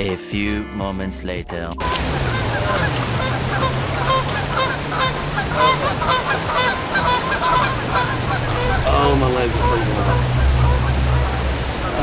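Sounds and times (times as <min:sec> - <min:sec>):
flock of birds calling: 0:01.8 - 0:12.0
shallow stream rushing: 0:01.8 - 0:12.0.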